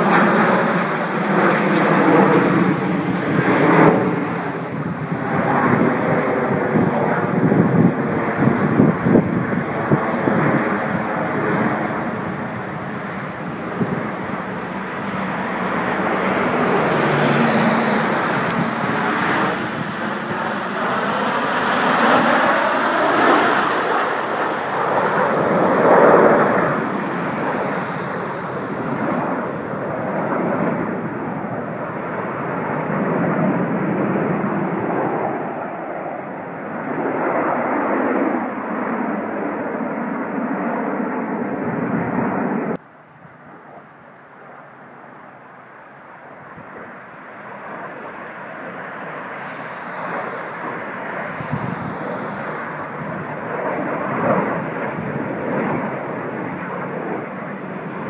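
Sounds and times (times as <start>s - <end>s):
high jet whine: 0.0s - 58.0s
jets flying past overhead: 0.0s - 58.0s.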